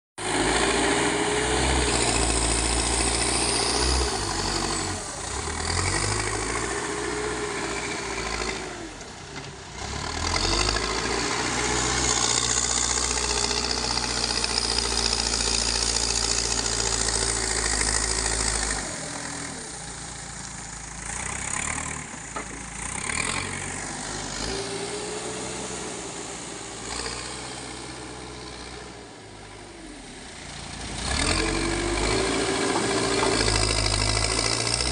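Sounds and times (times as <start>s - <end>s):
backhoe diesel engine working: 0.2s - 34.9s.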